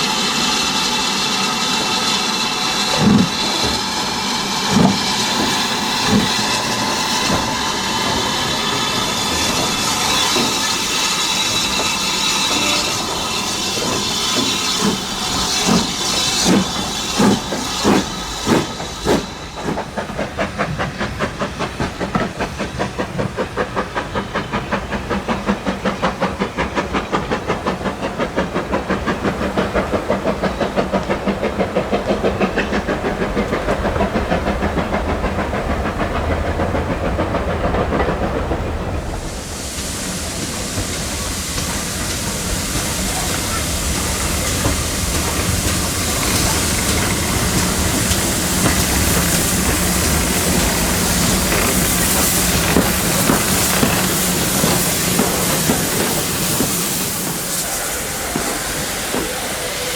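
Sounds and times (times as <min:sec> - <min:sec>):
steam hissing: 0:00.0 - 0:59.9
steam locomotive exhaust chuffs: 0:00.0 - 0:59.9.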